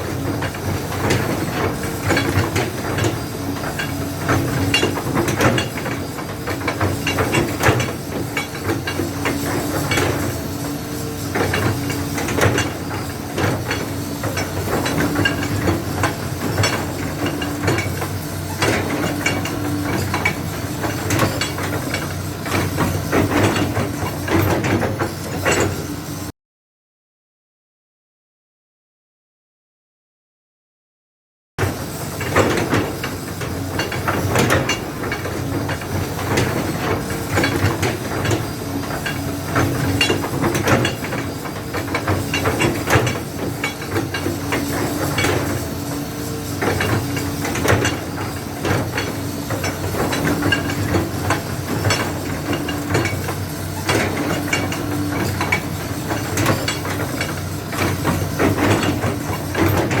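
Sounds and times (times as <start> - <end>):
excavator engine running: 0.0 - 26.3, 31.6 - 60.0.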